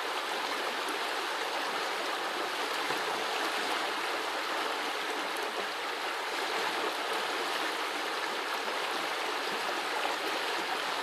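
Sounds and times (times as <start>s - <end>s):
brook babbling: 0.0s - 11.0s.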